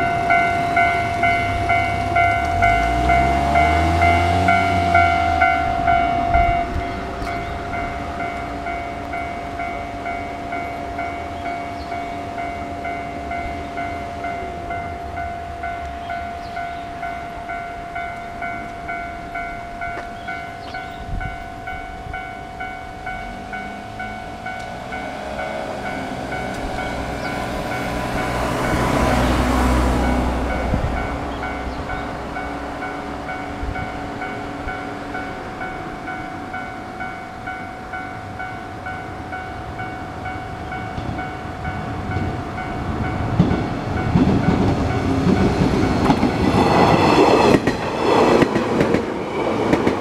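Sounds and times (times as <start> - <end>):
level crossing warning bell: 0.0 - 50.0
train rumble: 0.0 - 50.0.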